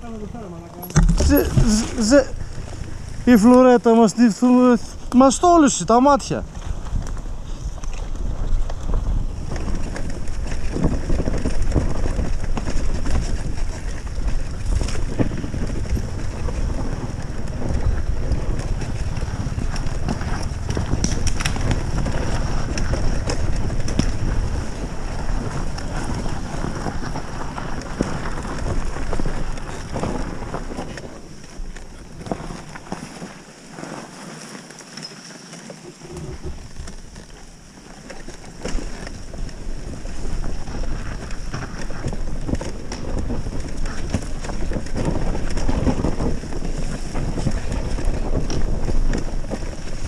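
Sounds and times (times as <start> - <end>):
wind buffeting microphone: 0.0 - 33.0, 36.0 - 50.0.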